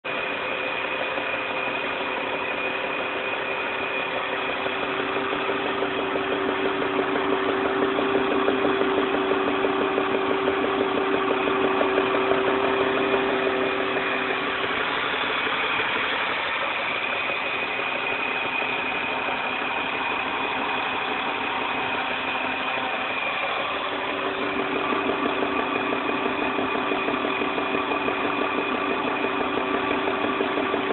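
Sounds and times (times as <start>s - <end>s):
car engine running: 0.0s - 30.9s
rapid engine knocking: 0.0s - 30.9s.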